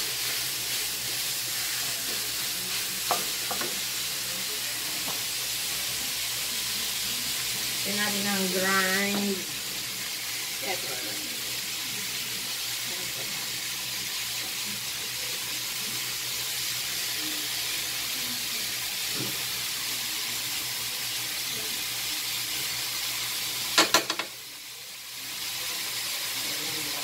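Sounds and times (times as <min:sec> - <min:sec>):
meat sizzling in a wok: 0:00.0 - 0:27.0.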